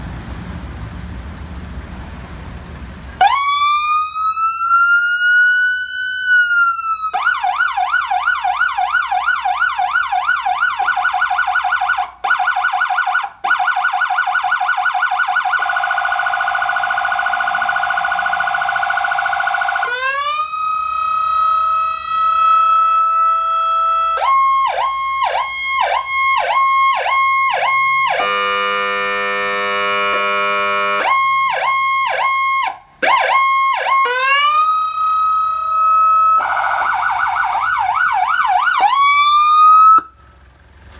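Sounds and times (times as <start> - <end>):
low road or engine noise: 0.0 - 40.9
electronic vehicle siren: 3.2 - 40.2.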